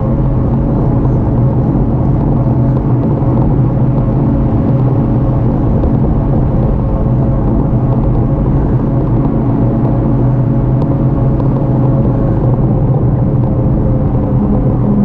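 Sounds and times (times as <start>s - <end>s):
road noise: 0.0s - 15.0s
steady low hum: 0.0s - 15.0s
wind noise: 0.0s - 15.0s.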